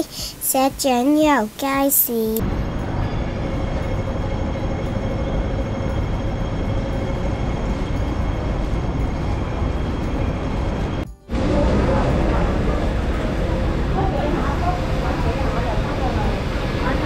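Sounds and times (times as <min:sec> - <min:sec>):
rumbling street noise: 0:02.4 - 0:17.0.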